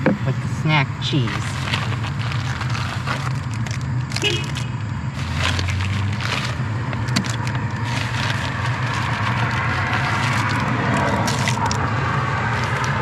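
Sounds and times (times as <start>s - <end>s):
plastic packaging crinkling: 1.1s - 13.0s.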